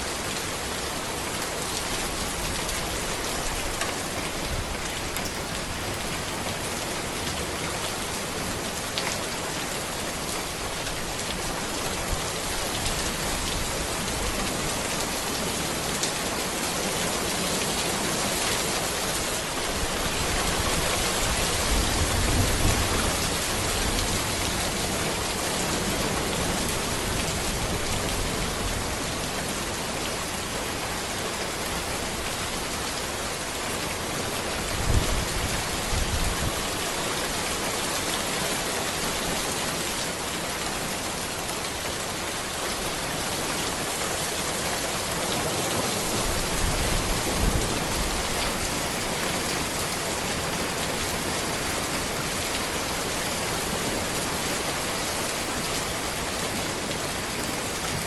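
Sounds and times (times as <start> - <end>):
rain falling on a road: 0.0 - 58.0.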